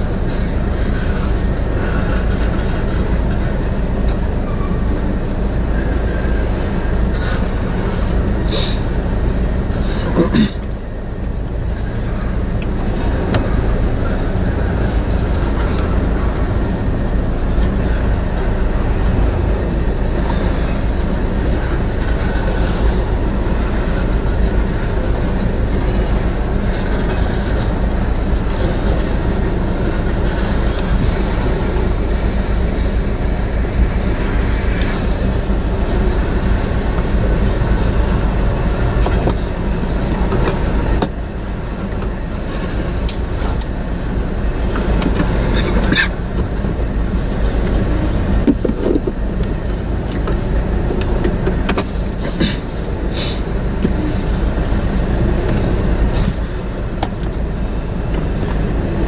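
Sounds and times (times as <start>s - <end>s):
steel wheels rolling on rail: 0.0s - 59.0s.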